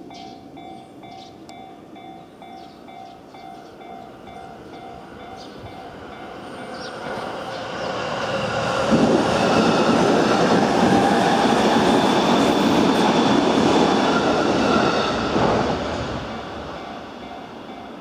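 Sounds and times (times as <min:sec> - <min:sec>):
electric train rumbling past: 0:00.0 - 0:18.0.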